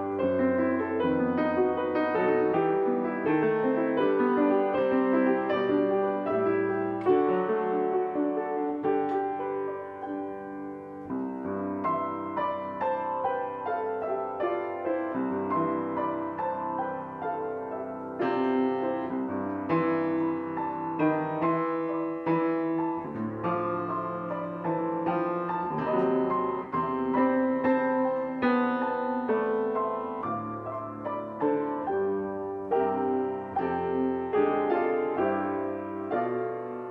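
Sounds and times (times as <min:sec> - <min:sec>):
solo piano: 0:00.0 - 0:36.9.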